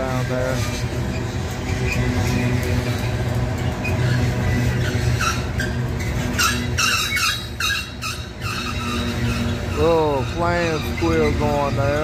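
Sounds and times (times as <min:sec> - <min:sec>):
train wheels rumbling: 0:00.0 - 0:12.0
wheel flange squeal: 0:00.0 - 0:12.0.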